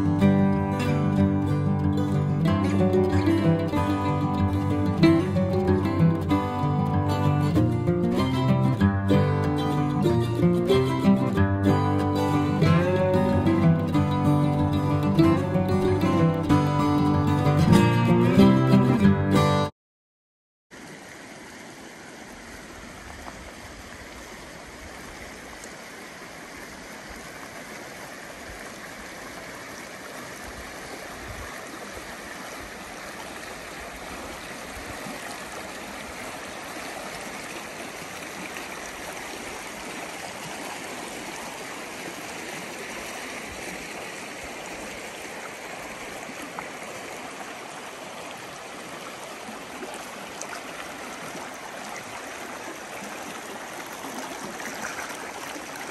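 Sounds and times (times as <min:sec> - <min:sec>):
creek flowing over rocks: 0:00.0 - 0:17.5, 0:20.7 - 0:55.9.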